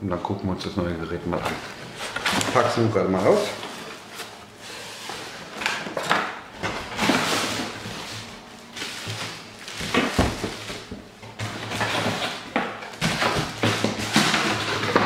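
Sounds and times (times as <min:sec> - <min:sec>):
packaging rustling: 0:01.4 - 0:15.0
plastic wrapping crinkling: 0:01.4 - 0:15.0.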